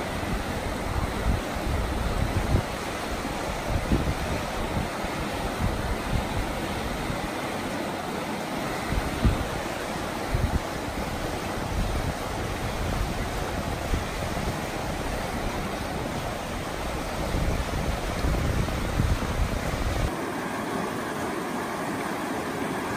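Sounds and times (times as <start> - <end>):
wind buffeting microphone: 0.0 - 7.4, 8.7 - 20.1
river rapids rushing: 0.0 - 22.9.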